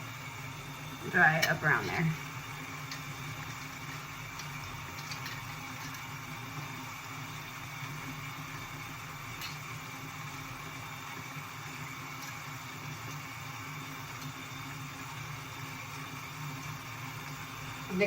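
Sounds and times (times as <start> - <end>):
even hiss: 0.0 - 18.0.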